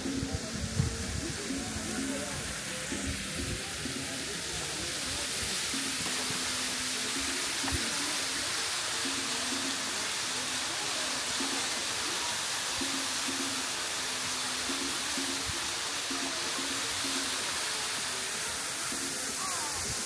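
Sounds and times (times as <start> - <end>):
waterfall splashing into pool: 0.0 - 20.0.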